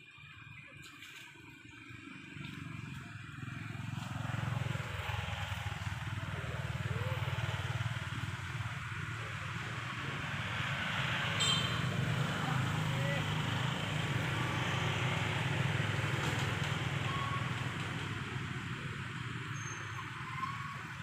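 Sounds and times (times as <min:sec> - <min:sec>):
engine running with low hum: 0:00.0 - 0:21.0.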